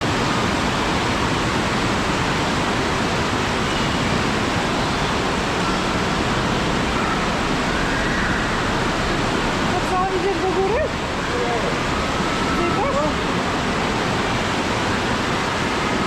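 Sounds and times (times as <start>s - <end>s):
loud rush of flowing water: 0.0s - 16.0s.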